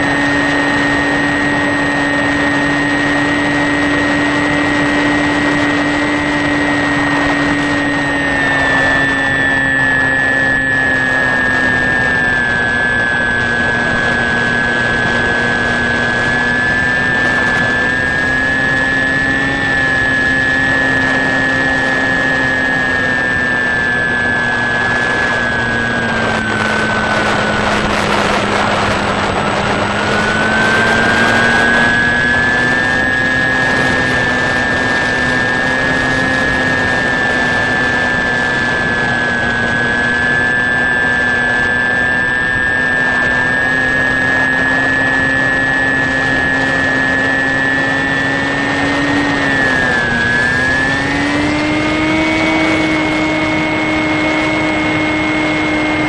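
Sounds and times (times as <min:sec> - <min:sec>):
electric motor and propeller whining: 0:00.0 - 0:56.0
rushing air: 0:00.0 - 0:56.0.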